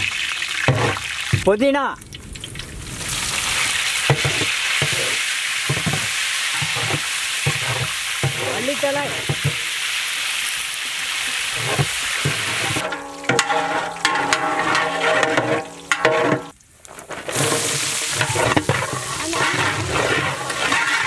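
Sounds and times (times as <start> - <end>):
oil sizzling in pot: 0.0 - 1.4, 2.1 - 21.0.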